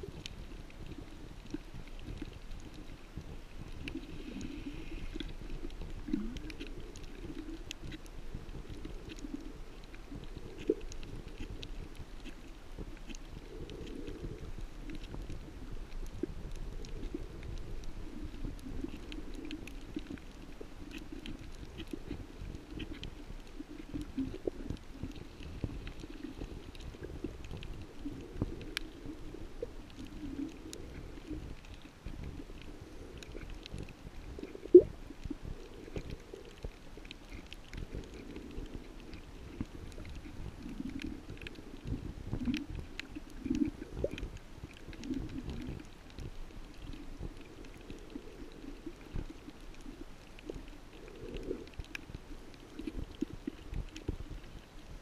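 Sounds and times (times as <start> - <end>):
faint clicks: 0.0 - 55.0
rumble of moving water underwater: 0.0 - 55.0.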